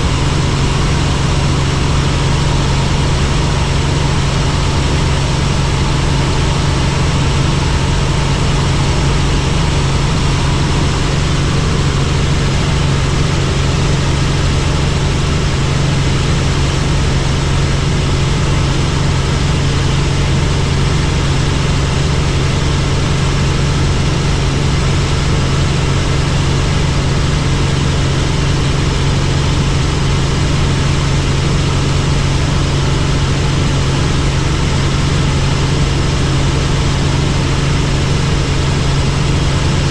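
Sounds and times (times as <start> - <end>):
helicopter in flight: 0.0 - 39.9.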